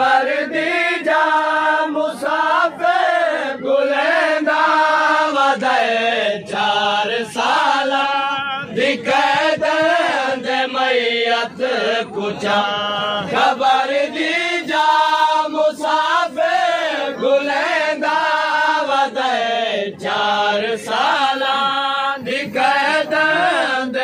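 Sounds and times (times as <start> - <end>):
crowd of men chanting a lament: 0.0 - 24.0.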